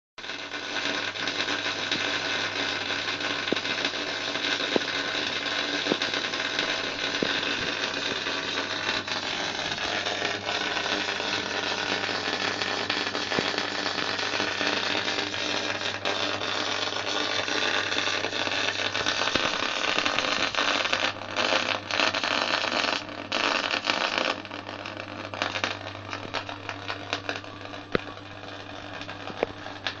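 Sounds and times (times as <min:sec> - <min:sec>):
welding arc crackling: 0:00.2 - 0:30.0.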